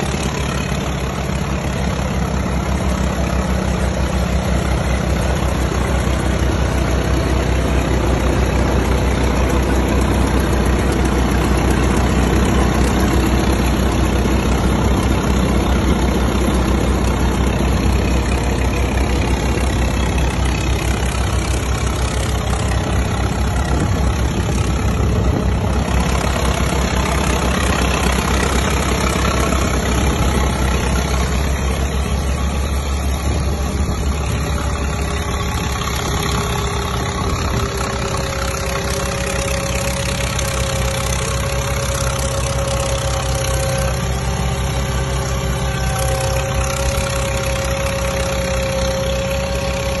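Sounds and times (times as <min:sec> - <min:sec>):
steady whine: 0:00.0 - 0:50.0
tractor engine running: 0:00.0 - 0:50.0.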